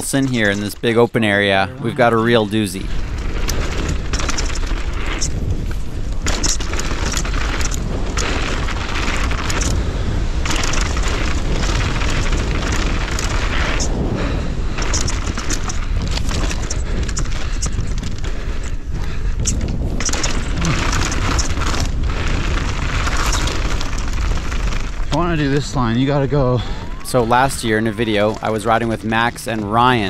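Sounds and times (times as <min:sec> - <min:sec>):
tyres crunching over dirt and rock: 0:00.0 - 0:26.0, 0:26.7 - 0:30.0
wind buffeting microphone: 0:00.0 - 0:30.0.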